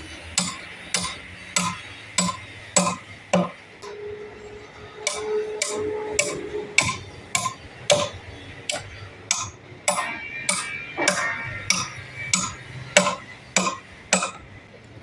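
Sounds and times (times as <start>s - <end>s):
hammer ringing strikes: 0.0s - 14.5s.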